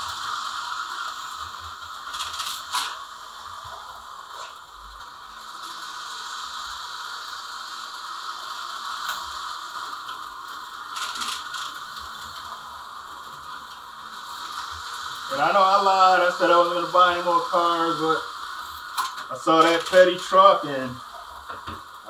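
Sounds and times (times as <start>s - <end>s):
slot car motors whirring: 0.0s - 22.0s
sharp clicks and clatters: 0.1s - 15.6s, 18.7s - 22.0s.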